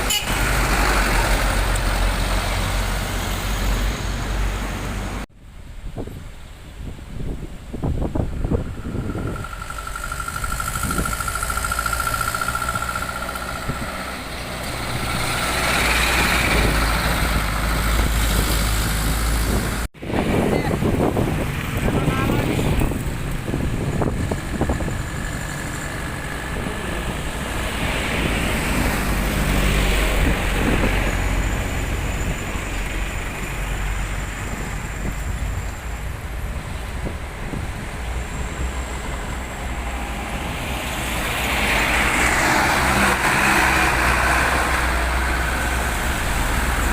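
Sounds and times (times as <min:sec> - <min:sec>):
road traffic with trucks: 0:00.0 - 0:46.9.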